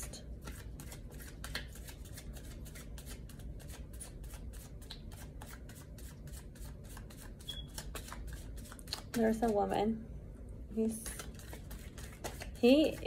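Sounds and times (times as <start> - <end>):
cards being shuffled by hand: 0.2 - 9.7, 10.9 - 13.0.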